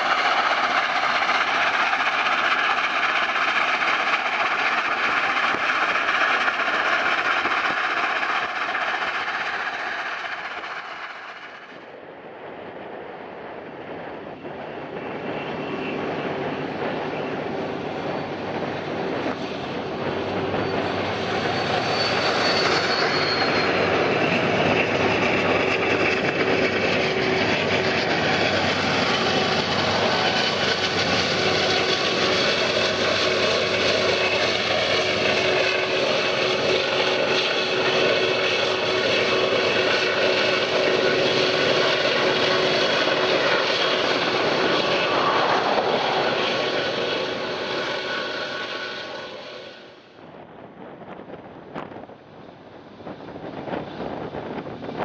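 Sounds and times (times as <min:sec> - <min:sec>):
train wheels roaring on rails: 0:00.0 - 0:55.0.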